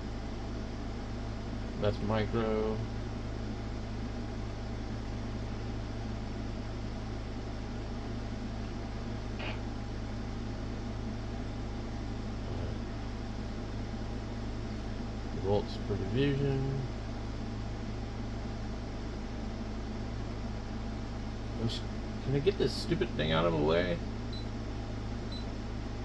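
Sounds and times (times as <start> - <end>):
equipment humming and hissing: 0.0 - 26.0.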